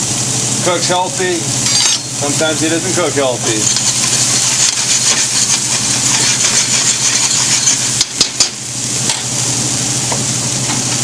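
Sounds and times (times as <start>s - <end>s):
steady low hum: 0.0s - 11.0s
vegetables sizzling in oil: 0.0s - 11.0s.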